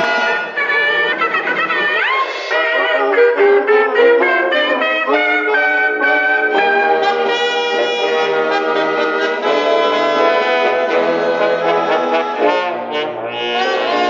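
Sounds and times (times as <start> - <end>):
orchestral cartoon music with brass: 0.0 - 14.0.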